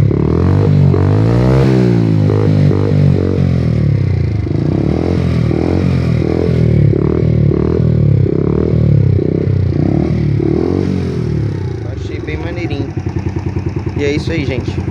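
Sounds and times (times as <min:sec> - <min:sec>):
moped engine revving: 0:00.0 - 0:14.9.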